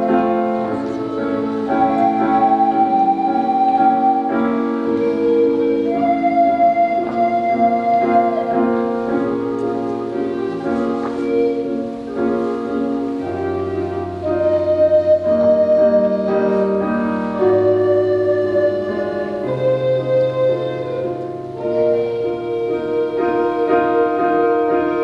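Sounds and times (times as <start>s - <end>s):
recorder ensemble playing: 0.0s - 25.0s.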